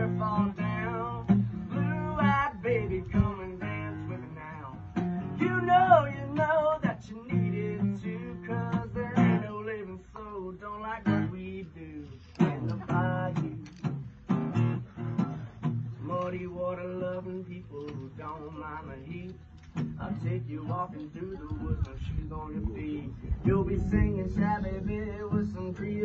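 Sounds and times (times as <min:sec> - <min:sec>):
man singing wordless phrases: 0:00.0 - 0:14.0, 0:15.9 - 0:26.0
acoustic guitar strumming: 0:00.0 - 0:26.0.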